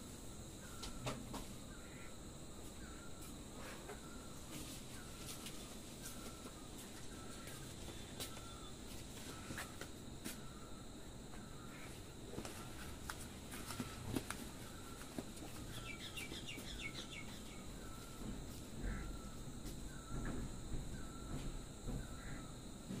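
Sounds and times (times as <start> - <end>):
falling bird chirps: 0.6 - 10.8, 13.6 - 22.6
birds calling: 0.6 - 22.6.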